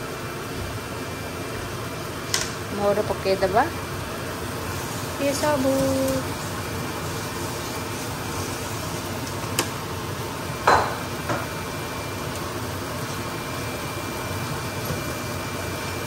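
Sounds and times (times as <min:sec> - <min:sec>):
kitchen exhaust fan whirring: 0:00.0 - 0:16.0.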